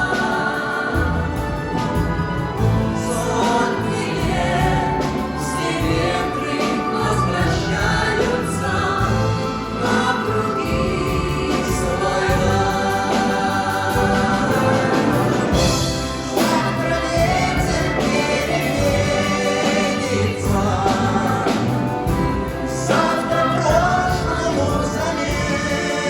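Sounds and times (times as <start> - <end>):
choir singing with orchestra: 0.0 - 26.0.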